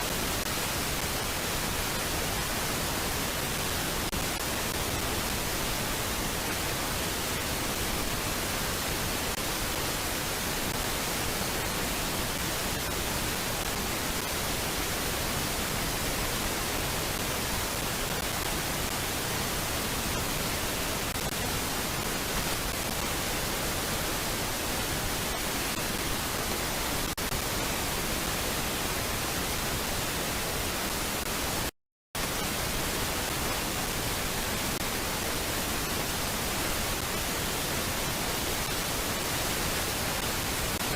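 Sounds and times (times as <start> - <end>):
static-like hiss: 0.0 - 40.9.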